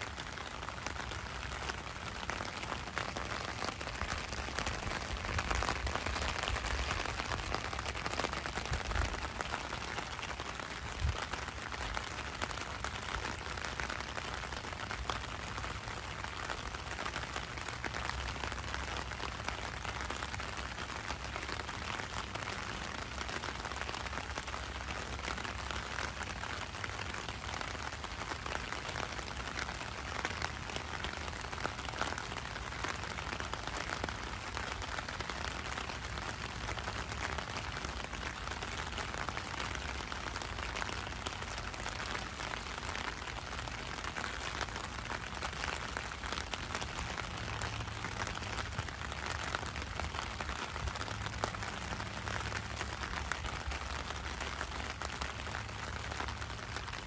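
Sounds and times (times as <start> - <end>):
heavy rain: 0.0 - 57.0
raindrops on plastic umbrella: 0.0 - 57.0.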